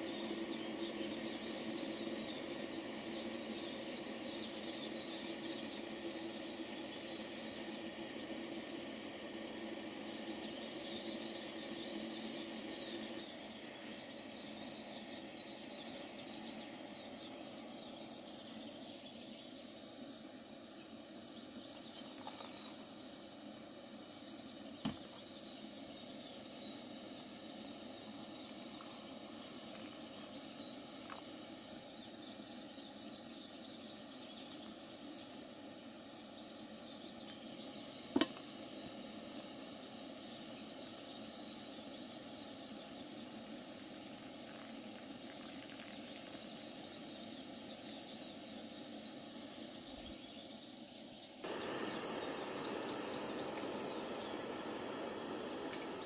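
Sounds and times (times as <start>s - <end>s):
camp stove burner hissing: 0.0s - 50.4s, 51.2s - 56.0s.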